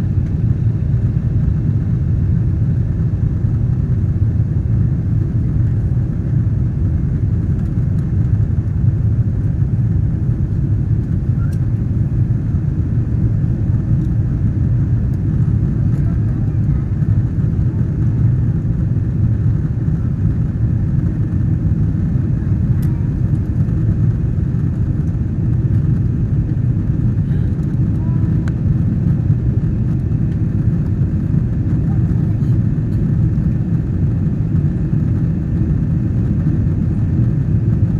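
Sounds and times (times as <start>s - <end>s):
jet engines and airflow in cabin: 0.0s - 37.9s.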